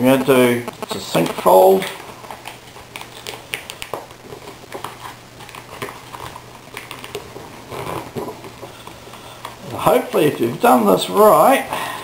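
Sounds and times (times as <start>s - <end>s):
paper crackling and rustling: 0.0s - 10.4s.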